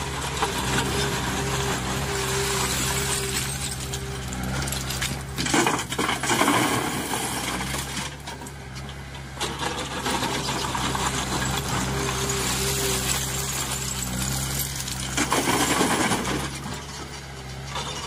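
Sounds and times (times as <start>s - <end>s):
diesel engine running: 0.0s - 18.0s
rocks clattering in metal trolley: 0.0s - 18.0s.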